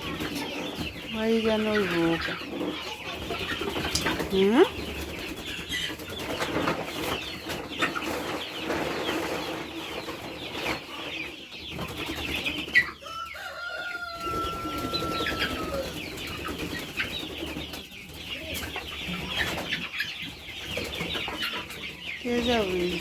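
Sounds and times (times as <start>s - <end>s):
chicks clucking and chirping: 0.0s - 23.0s.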